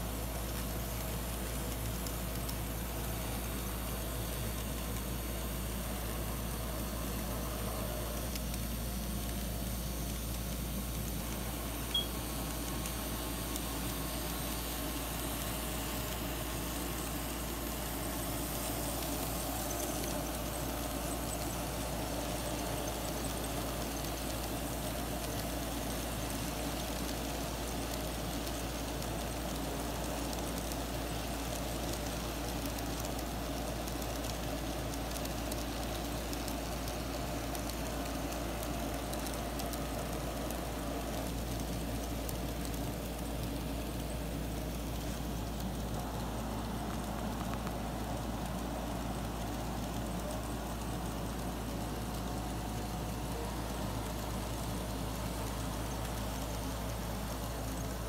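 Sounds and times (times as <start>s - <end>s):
model train motors whirring: 0.0s - 58.0s.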